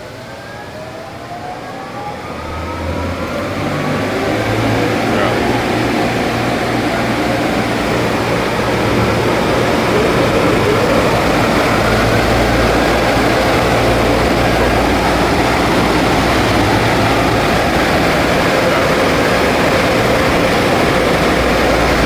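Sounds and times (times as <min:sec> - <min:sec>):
car wash machinery roaring: 0:00.0 - 0:22.0.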